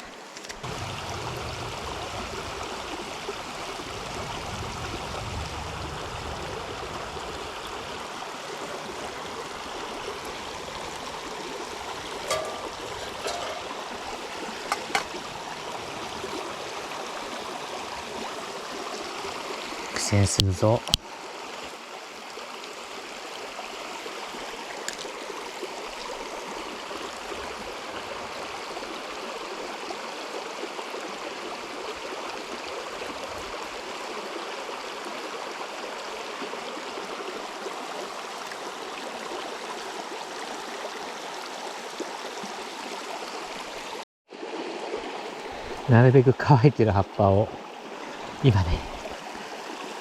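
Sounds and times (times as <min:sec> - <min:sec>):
river water flowing: 0:00.0 - 0:50.0.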